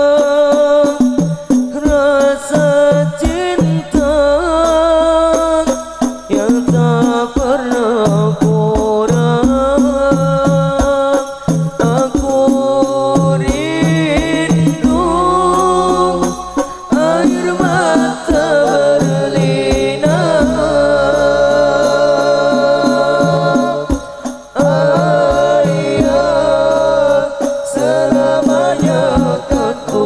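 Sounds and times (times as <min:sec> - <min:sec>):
steady percussion beat: 0:00.0 - 0:30.0
young men singing together: 0:00.0 - 0:30.0.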